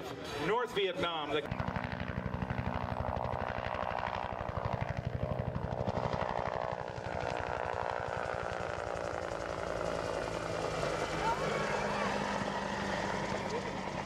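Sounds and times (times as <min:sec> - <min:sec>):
helicopter rotor beating: 0:00.5 - 0:14.0.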